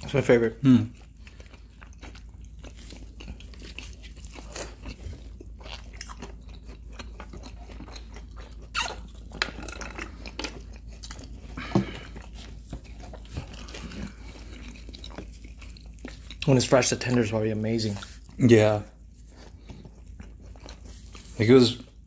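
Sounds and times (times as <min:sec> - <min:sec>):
chewing crunchy fried food: 0:00.0 - 0:22.0.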